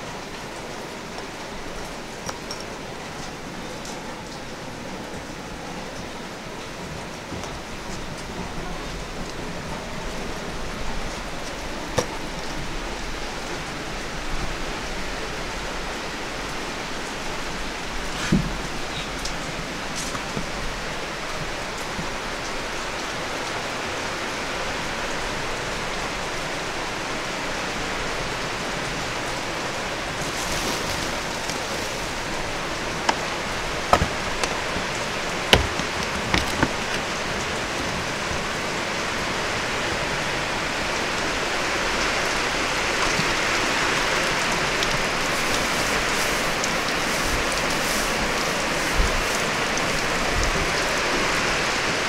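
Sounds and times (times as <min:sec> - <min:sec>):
rain hissing: 0:00.0 - 0:52.0.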